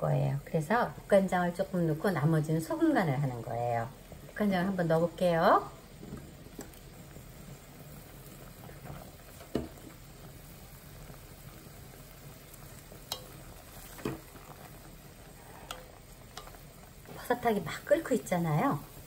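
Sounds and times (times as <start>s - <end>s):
soup bubbling at a boil: 0.1s - 19.0s.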